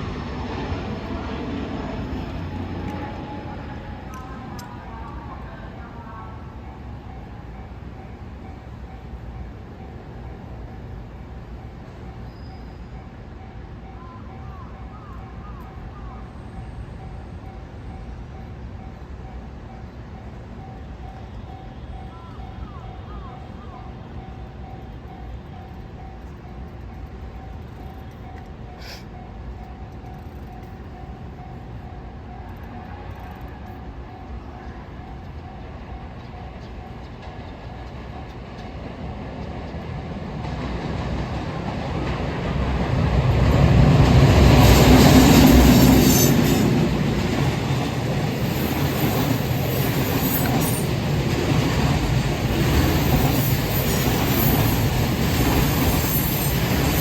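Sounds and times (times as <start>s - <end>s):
electric locomotive rumble: 0.0s - 57.0s.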